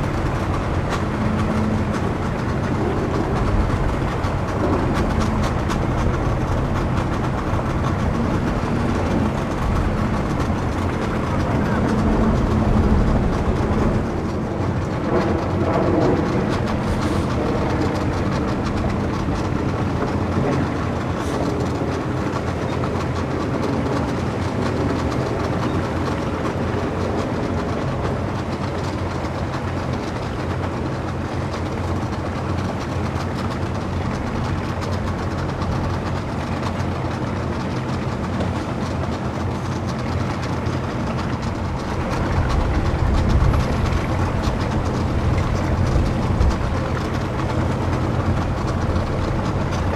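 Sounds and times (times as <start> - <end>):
boat engine humming: 0.0 - 49.9
water: 0.0 - 49.9.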